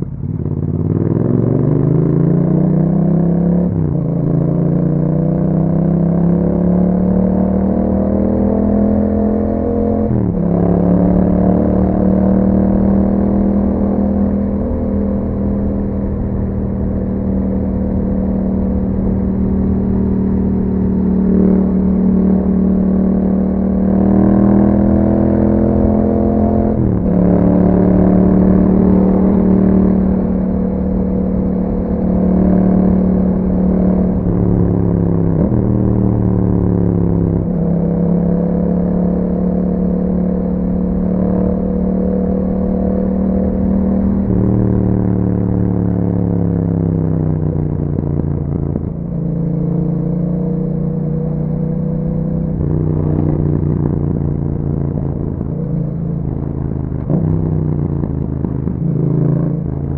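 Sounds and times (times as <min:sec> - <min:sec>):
motorcycle engine while riding: 0:00.0 - 0:59.9.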